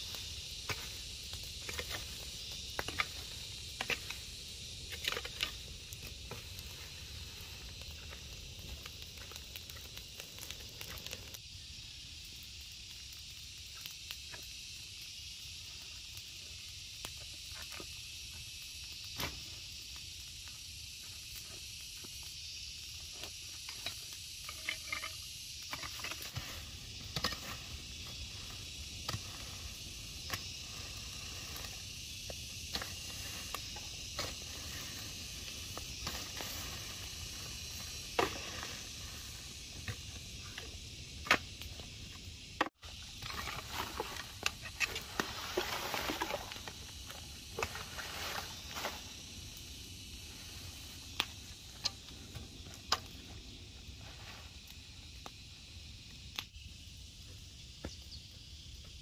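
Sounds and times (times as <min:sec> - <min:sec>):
steady high hiss: 0:00.0 - 0:59.0.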